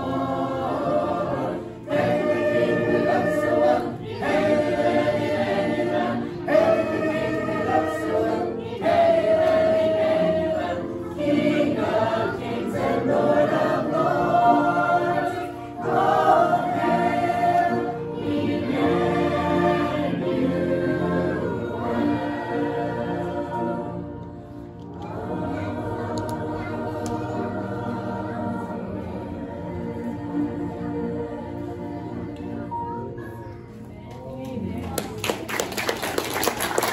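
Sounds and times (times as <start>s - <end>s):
mixed choir singing a hymn: 0.0s - 35.0s.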